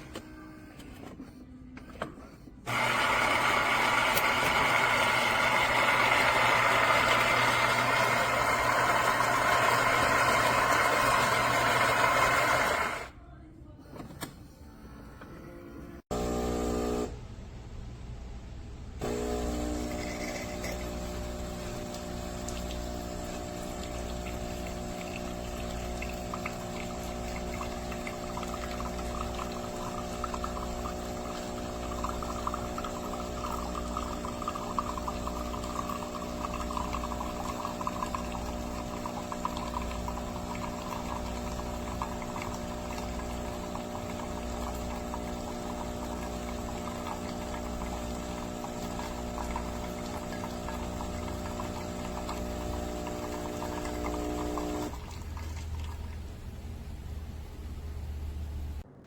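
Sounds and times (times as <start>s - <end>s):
espresso machine pump humming: 2.7s - 13.1s, 16.1s - 17.2s, 19.0s - 56.2s
liquid streaming from spout: 2.7s - 13.1s, 19.1s - 56.4s.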